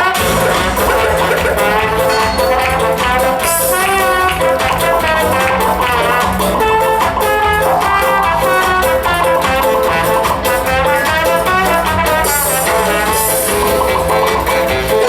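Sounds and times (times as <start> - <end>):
instrumental show music: 0.0 - 15.0.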